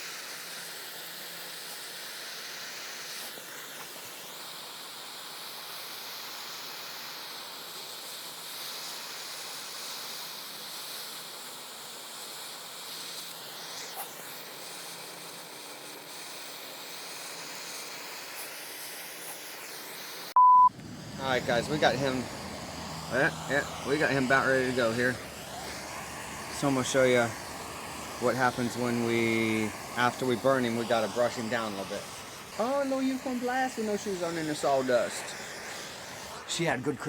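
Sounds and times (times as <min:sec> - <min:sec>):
gas torch flame hissing: 0:00.0 - 0:37.0.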